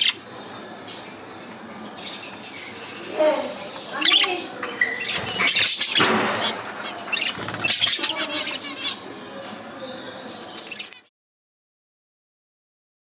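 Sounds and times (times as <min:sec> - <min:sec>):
budgerigars chirping and warbling: 0:00.0 - 0:11.1.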